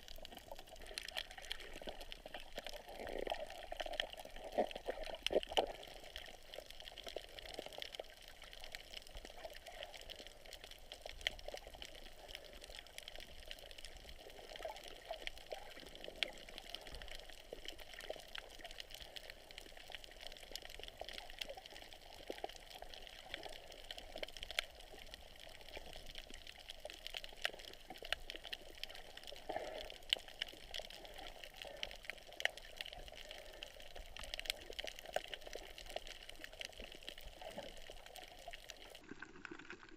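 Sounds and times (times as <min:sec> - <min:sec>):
muffled underwater hiss: 0:00.0 - 0:39.0
small clicks and crackles: 0:00.0 - 0:39.9.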